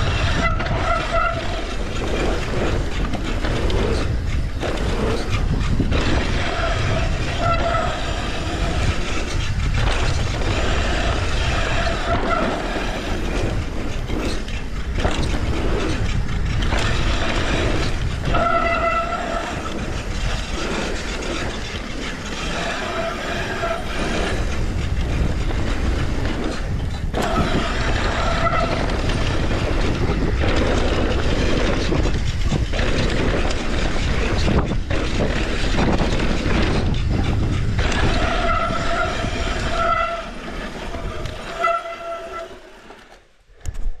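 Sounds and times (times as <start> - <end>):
wind rush over microphone: 0.0 - 42.5
whining tone: 0.0 - 43.8
bike rattling over bumps: 0.0 - 44.0.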